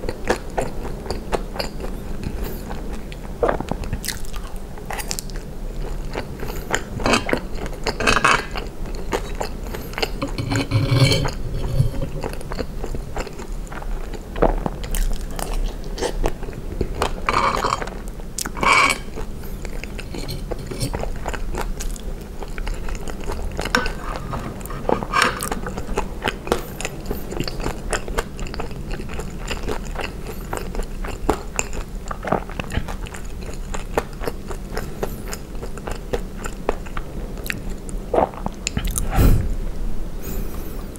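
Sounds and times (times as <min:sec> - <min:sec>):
person chewing food: 0:00.0 - 0:39.6.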